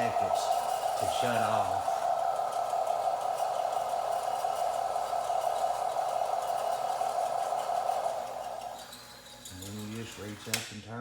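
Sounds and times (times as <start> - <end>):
machinery sound effect from speaker: 0.0 - 10.3.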